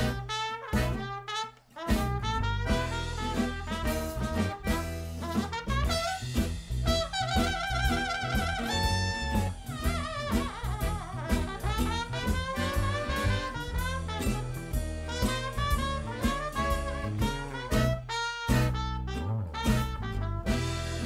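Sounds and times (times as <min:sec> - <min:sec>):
jazz band playing: 0:00.0 - 0:21.0.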